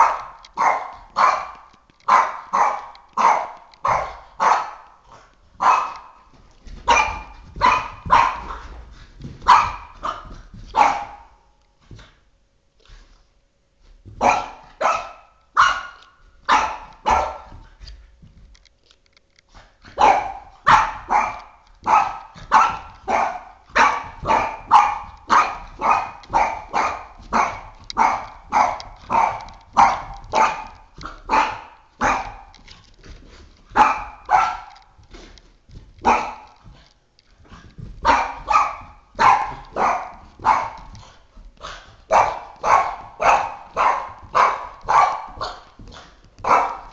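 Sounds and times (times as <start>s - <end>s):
dog barking excitedly: 0.0s - 11.5s, 14.1s - 18.0s, 19.8s - 32.8s, 33.6s - 35.1s, 35.7s - 46.9s.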